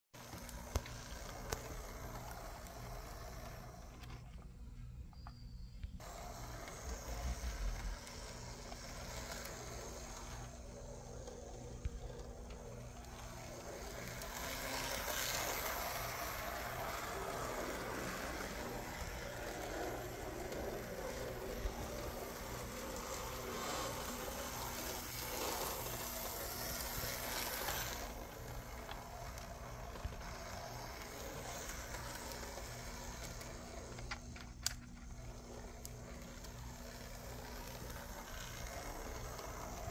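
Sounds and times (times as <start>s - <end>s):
model train whir and rattle: 0.2s - 39.9s.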